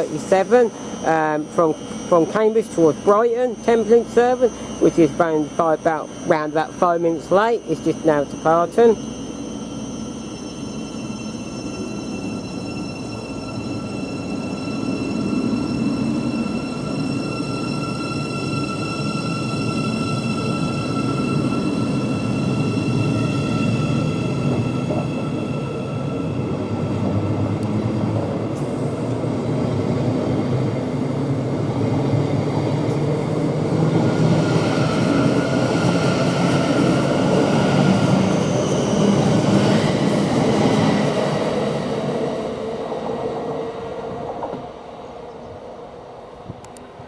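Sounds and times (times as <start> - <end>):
train traction motors whining: 0.0 - 43.1.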